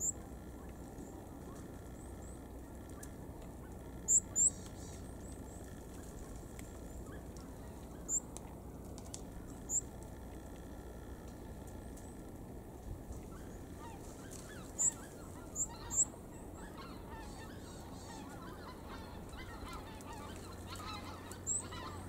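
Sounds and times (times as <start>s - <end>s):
songbirds high thin calls: 0.0s - 8.4s, 9.4s - 10.0s, 13.2s - 22.0s
low background noise: 0.0s - 22.0s.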